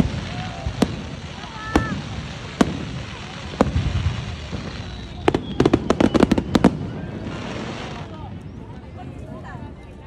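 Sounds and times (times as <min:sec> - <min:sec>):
fireworks bangs and cracks: 0:00.0 - 0:08.7
crowd murmur: 0:00.0 - 0:10.0.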